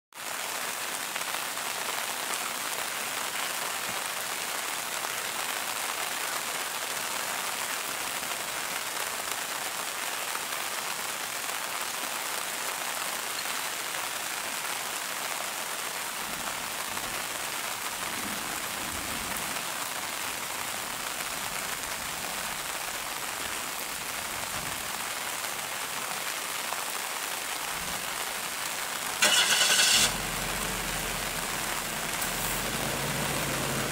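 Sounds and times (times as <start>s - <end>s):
rain falling on foliage: 0.1s - 33.9s.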